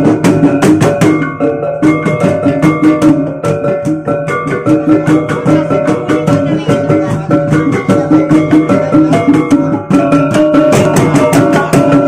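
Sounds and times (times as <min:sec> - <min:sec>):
drum beats: 0:00.0 - 0:12.0.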